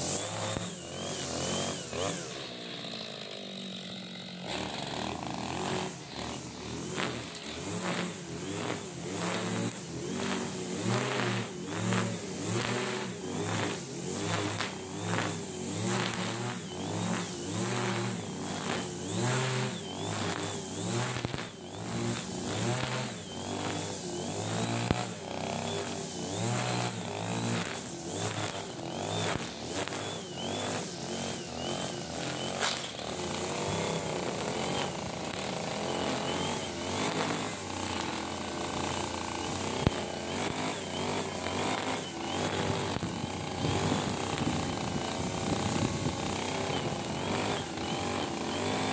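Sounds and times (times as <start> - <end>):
brush cutter engine cutting grass: 0.0 - 48.9
high whine of cutting head: 0.0 - 48.9.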